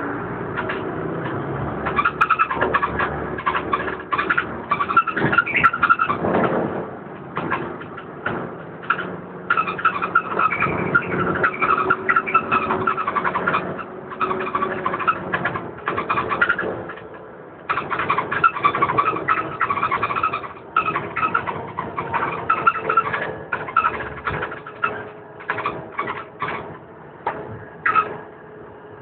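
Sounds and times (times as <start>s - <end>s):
bus engine droning: 0.0s - 29.0s
rattle of body fittings: 0.6s - 28.3s.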